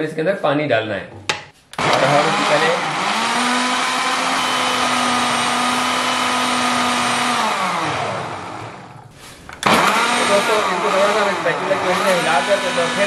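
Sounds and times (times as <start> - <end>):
blender running and spinning down: 1.8 - 13.0.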